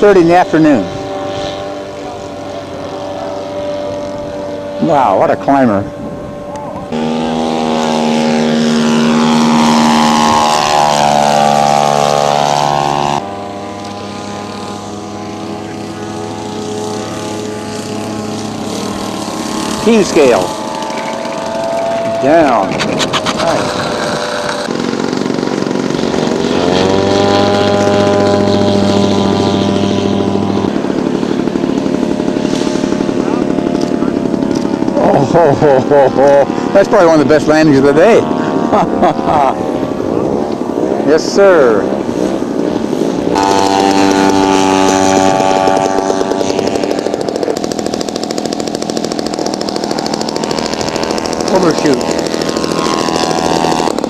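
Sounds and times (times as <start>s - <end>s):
model aircraft engine: 0.0s - 54.0s.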